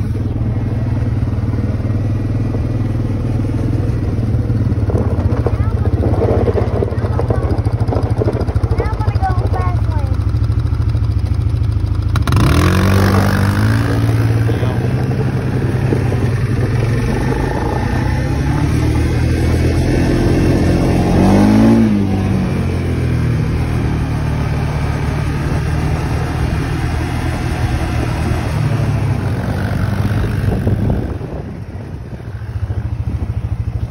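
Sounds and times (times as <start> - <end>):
quad bike engine running: 0.0 - 33.9
tyres on gravel road: 0.0 - 33.9.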